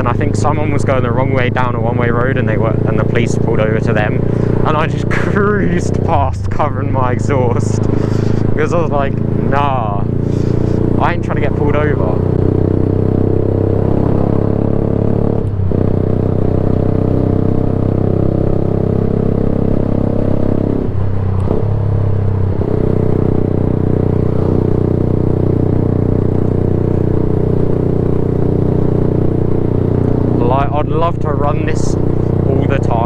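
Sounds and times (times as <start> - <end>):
loud motorcycle engine running: 0.0 - 33.0.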